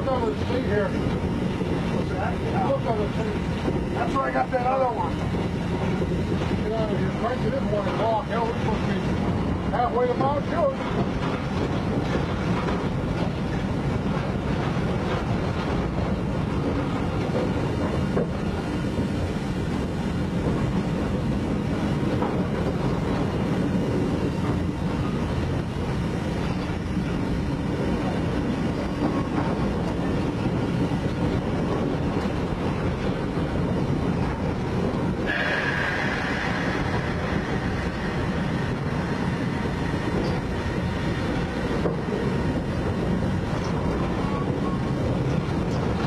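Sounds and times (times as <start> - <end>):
steam locomotive running: 0.0 - 46.0.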